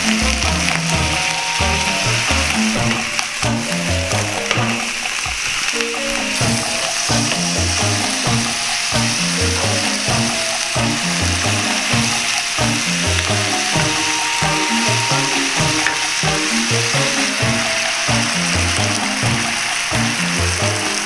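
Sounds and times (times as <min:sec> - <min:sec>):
background music: 0:00.0 - 0:21.0
food sizzling in a frying pan: 0:00.0 - 0:21.0.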